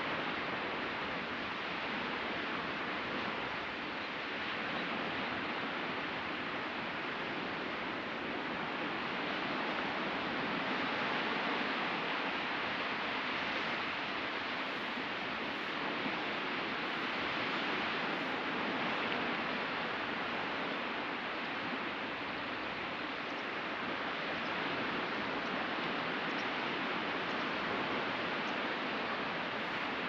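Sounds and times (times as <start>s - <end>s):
surf breaking on a beach: 0.0s - 30.0s.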